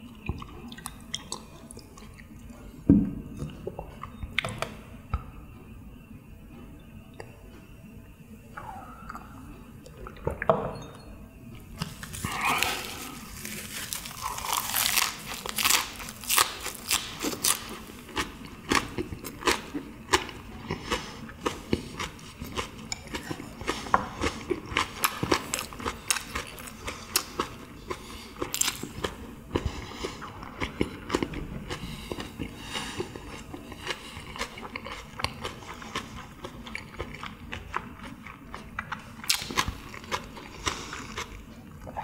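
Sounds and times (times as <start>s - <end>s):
chewing with crunching and smacking: 0.0s - 4.6s, 11.7s - 42.0s.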